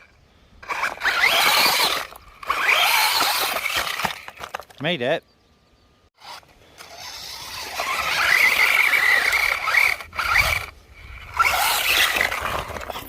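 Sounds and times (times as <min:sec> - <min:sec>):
scraping over rough ground: 0:00.0 - 0:05.1, 0:06.2 - 0:13.0
toy truck motor whining: 0:00.6 - 0:04.6, 0:06.2 - 0:13.0.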